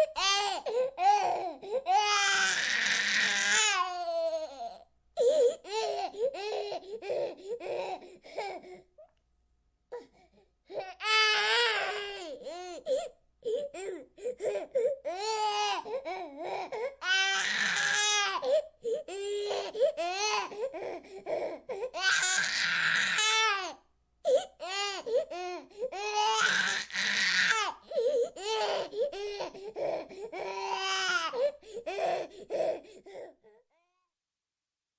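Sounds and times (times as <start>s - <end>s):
baby crying and wailing: 0.0s - 8.7s, 10.7s - 33.9s.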